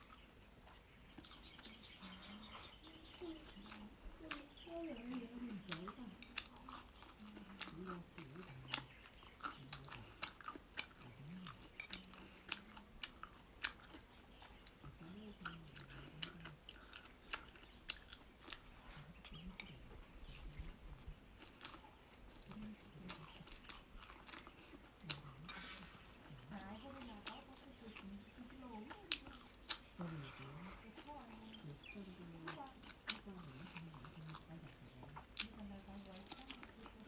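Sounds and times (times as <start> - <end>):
crunchy chewing: 0.0 - 37.0.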